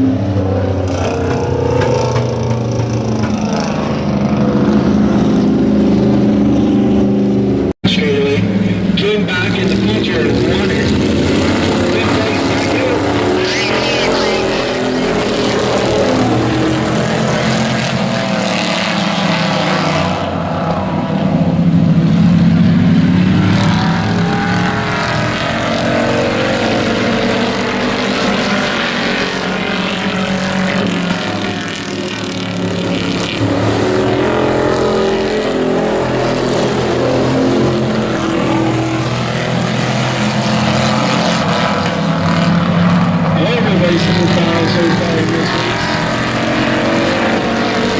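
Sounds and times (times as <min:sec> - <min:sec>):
race truck engines revving: 0:00.0 - 0:47.9.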